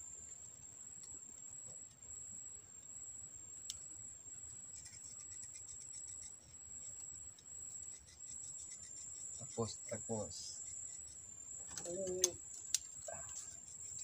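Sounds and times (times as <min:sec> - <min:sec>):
fast insect chirping pulses: 0:00.0 - 0:14.0
insects buzzing: 0:00.0 - 0:14.0.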